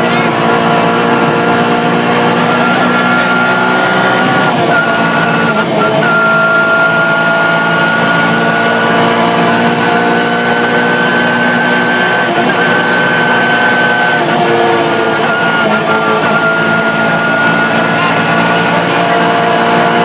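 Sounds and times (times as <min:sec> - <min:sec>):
rally car engine at high revs: 0:00.0 - 0:20.0.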